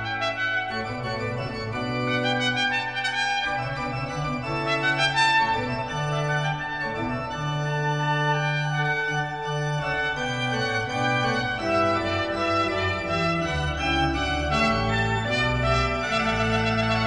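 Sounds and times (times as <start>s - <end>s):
trumpet notes: 0.0s - 7.4s, 8.1s - 17.0s
organ chords: 0.0s - 17.0s.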